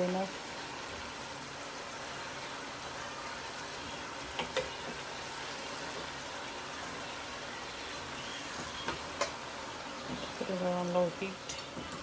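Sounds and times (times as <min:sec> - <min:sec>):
meat and peppers sizzling in a pan: 0:00.0 - 0:12.0.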